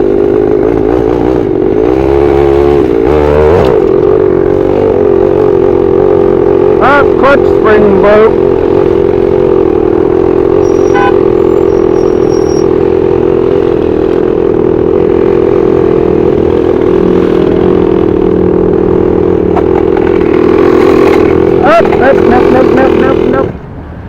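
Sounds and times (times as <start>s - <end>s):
small two-stroke engine running: 0.0s - 23.6s.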